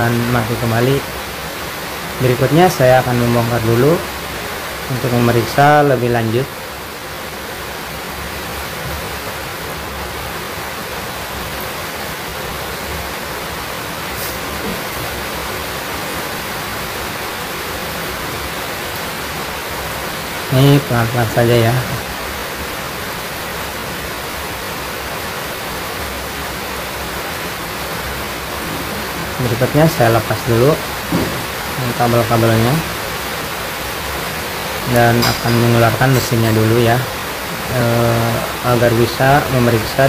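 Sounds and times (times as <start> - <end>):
steady rushing hiss: 0.0 - 40.0.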